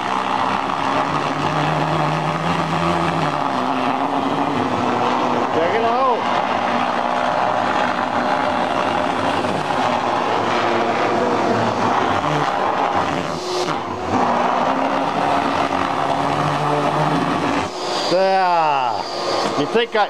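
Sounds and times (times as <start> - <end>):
vacuum cleaner sucking cloth: 0.0 - 20.0.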